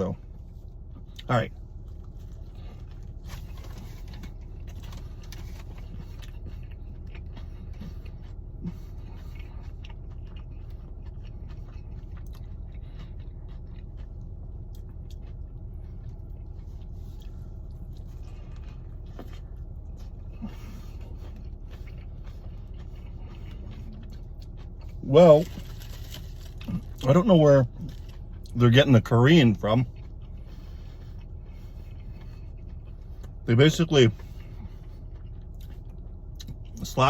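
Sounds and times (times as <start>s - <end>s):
low rumble inside car: 0.0s - 37.0s
person chewing with crunches: 0.0s - 37.0s.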